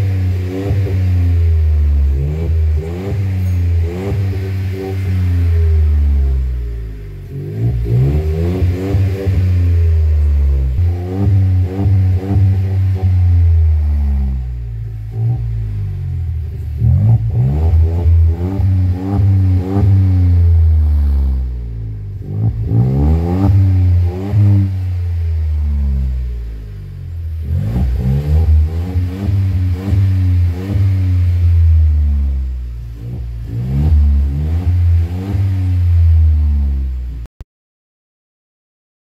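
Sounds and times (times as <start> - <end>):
car engine idling: 0.0 - 37.2
car engine revving: 0.0 - 37.3.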